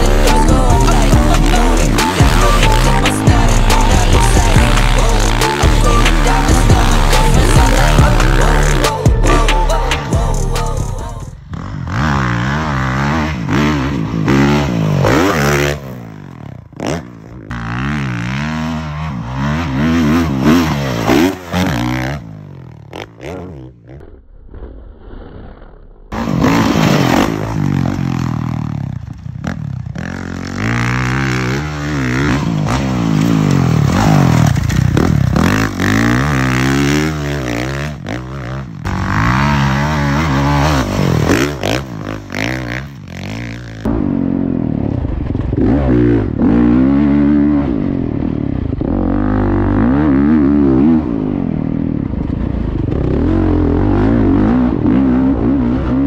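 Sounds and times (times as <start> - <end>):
dirt bike engine revving: 0.0 - 24.1, 26.1 - 56.0.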